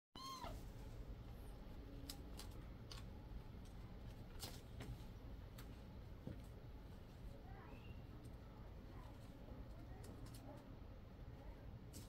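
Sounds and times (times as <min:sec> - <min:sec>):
low steady hum: 0:00.2 - 0:12.0.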